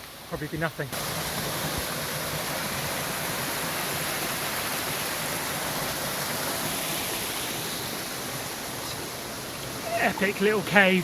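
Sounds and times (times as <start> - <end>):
stream and waterfalls rushing: 0.0 - 11.0.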